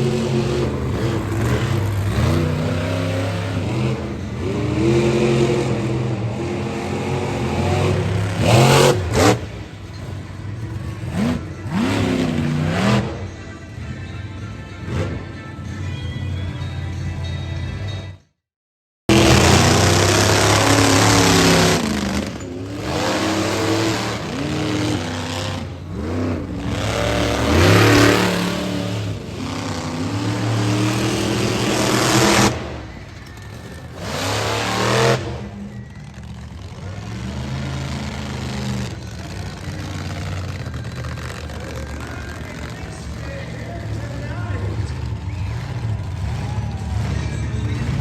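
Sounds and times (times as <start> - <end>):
monster truck engine revving: 0.0 - 13.5, 14.8 - 15.4, 19.1 - 48.0.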